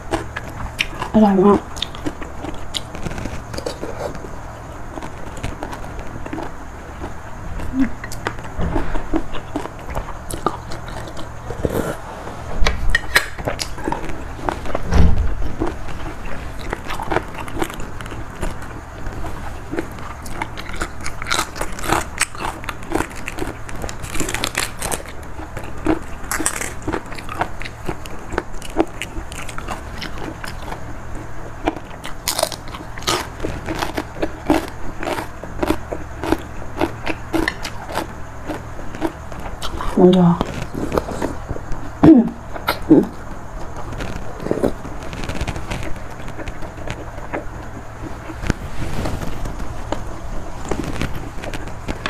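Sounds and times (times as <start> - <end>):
person chewing and crunching food: 0.0 - 52.0.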